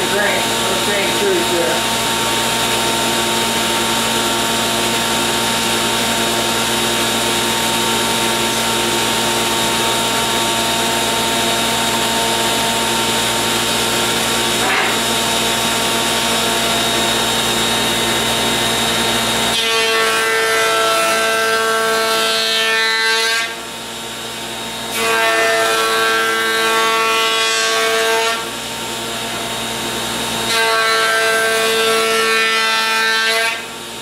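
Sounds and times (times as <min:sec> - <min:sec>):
board fed through cutter: 0:00.0 - 0:34.0
woodworking machine running: 0:00.0 - 0:34.0.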